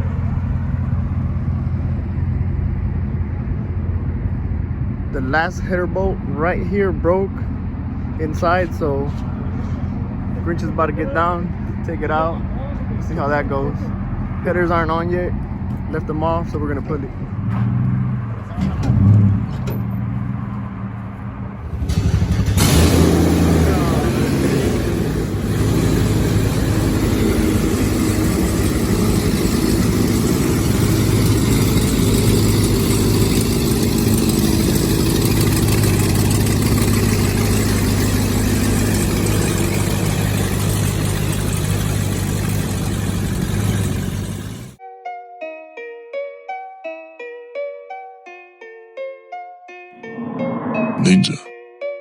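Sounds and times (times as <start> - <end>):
truck engine starting and running: 0.0 - 44.8.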